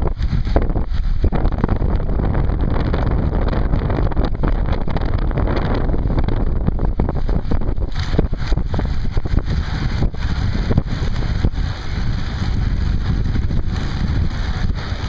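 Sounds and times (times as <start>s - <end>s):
bicycle knocks and rattles: 0.0s - 15.0s
wind rushing over microphone: 0.0s - 15.0s.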